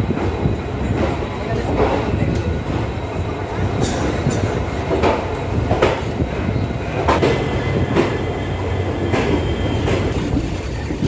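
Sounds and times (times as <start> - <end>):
train wheels over rail joints: 0.0 - 11.0.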